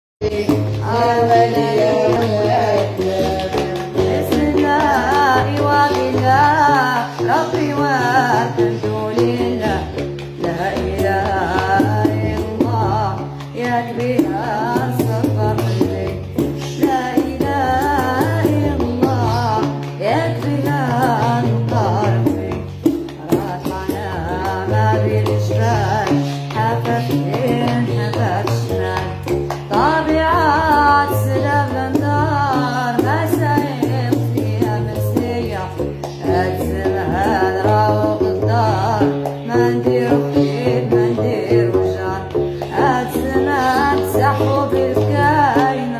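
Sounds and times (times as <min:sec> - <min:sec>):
girl singing: 0:00.2 - 0:45.9
light percussive taps: 0:00.2 - 0:45.9
plucked lute bass line: 0:00.2 - 0:45.9.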